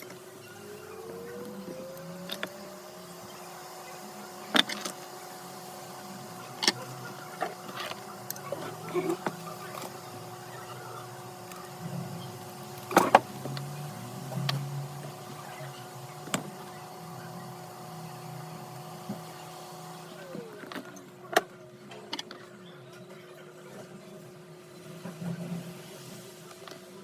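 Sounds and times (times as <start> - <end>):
electric bench equipment humming: 0.0 - 27.0.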